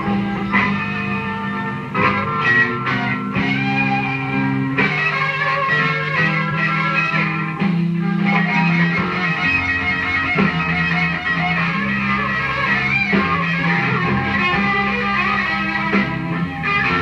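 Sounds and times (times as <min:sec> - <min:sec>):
bass line: 0:00.0 - 0:17.0
blues record playing: 0:00.0 - 0:17.0
electric guitar: 0:00.0 - 0:17.0.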